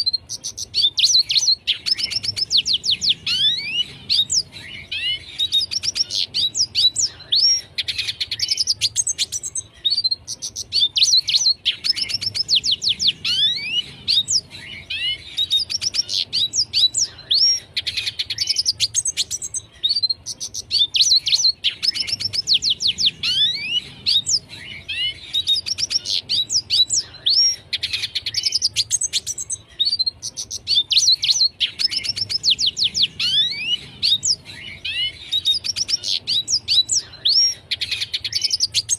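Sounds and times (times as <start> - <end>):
bird twittering and trilling: 0.0 - 38.9.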